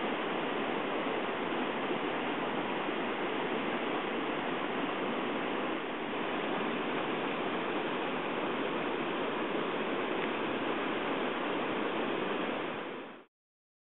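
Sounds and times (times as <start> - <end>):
river rapids rushing: 0.0 - 13.3.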